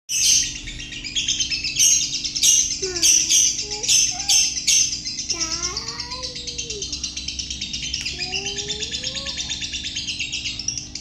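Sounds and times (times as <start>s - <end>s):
lovebird chattering chirps: 0.1s - 11.0s.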